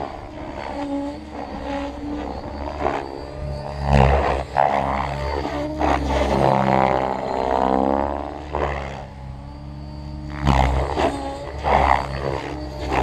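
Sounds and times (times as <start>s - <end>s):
rc helicopter rotors buzzing: 0.0s - 13.0s.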